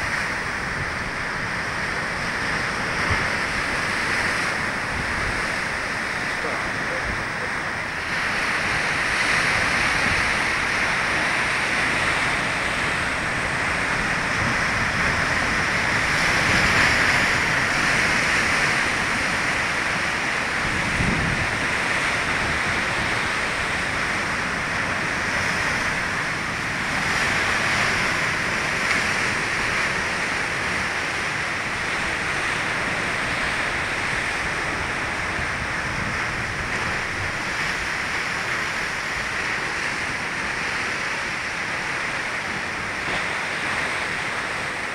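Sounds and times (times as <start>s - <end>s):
sea surf breaking on rocks: 0.0s - 44.9s.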